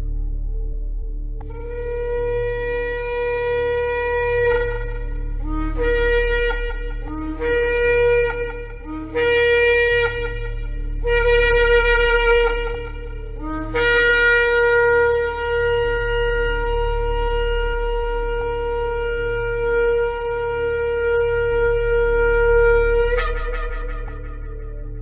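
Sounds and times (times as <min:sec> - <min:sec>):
steady low hum: 0:00.0 - 0:25.0
shofar blast: 0:01.6 - 0:25.0.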